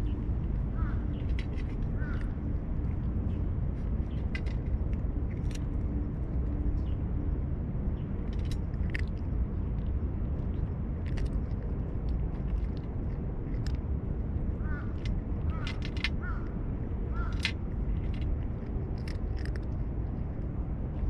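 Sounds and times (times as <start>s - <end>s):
cat crunching dry kibble: 0.0s - 6.8s, 7.7s - 21.0s
steady low rumble: 0.0s - 21.0s.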